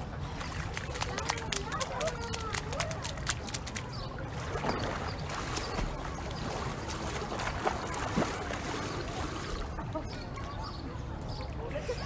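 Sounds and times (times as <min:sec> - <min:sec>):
moving water wash: 0:00.0 - 0:12.0
small water splashes: 0:00.1 - 0:10.7.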